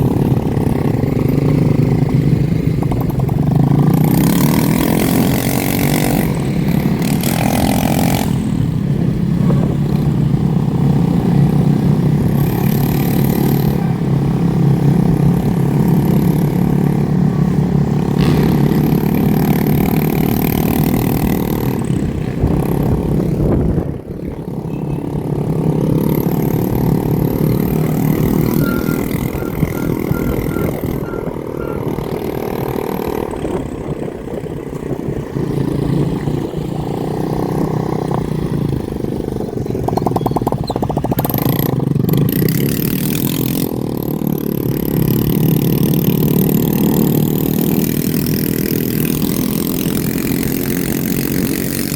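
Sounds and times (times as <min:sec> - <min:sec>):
motorbike engines revving: 0:00.0 - 0:51.9.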